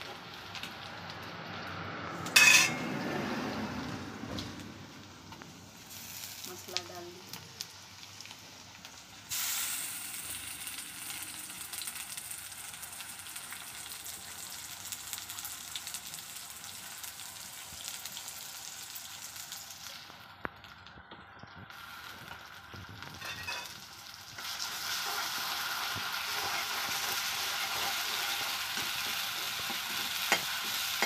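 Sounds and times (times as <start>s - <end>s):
onions sizzling in hot oil: 0.0s - 2.8s, 3.4s - 31.0s.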